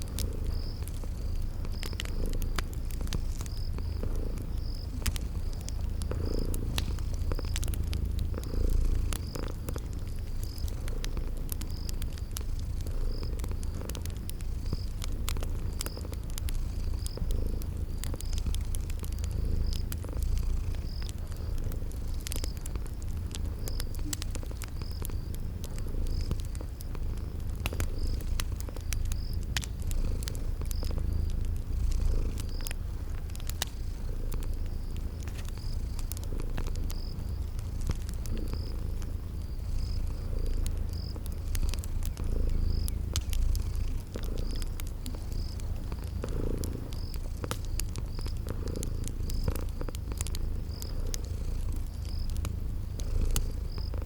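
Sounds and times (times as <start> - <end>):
cat purring: 0.0 - 54.0
cricket chirping: 0.0 - 54.0
wood fire crackling: 0.0 - 54.0.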